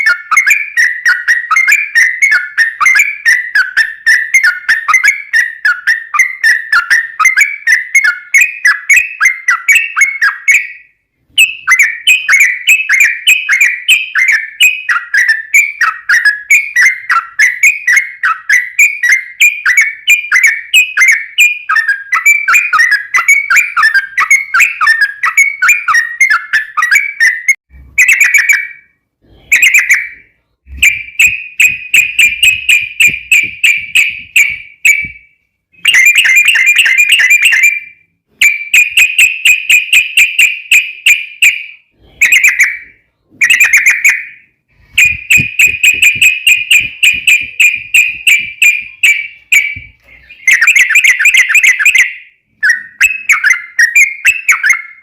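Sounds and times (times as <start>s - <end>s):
bird singing rapid chattering notes: 0.0s - 28.8s, 29.4s - 35.2s, 35.8s - 55.0s.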